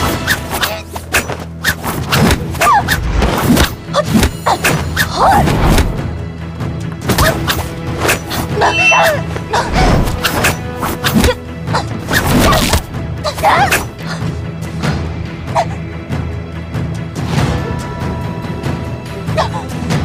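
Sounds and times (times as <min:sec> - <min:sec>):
dramatic film score: 0:00.0 - 0:20.0.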